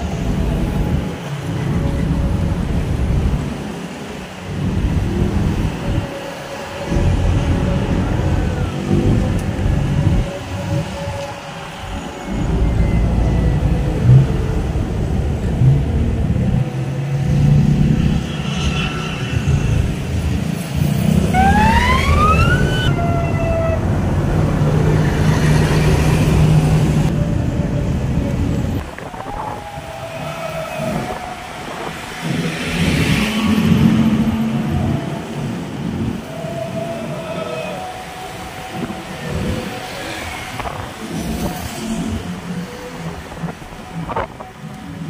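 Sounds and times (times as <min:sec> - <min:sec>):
rising siren-like wail: 0:00.0 - 0:45.0
road traffic rumble: 0:00.0 - 0:45.0.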